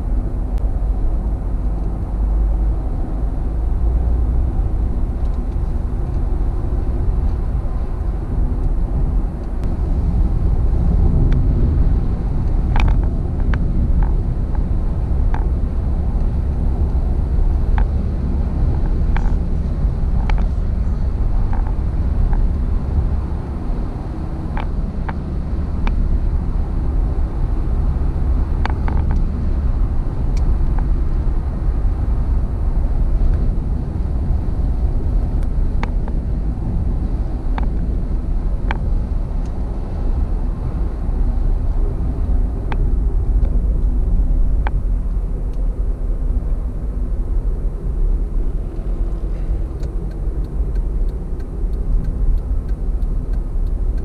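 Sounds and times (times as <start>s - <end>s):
tyre and engine rumble: 0.0s - 54.0s.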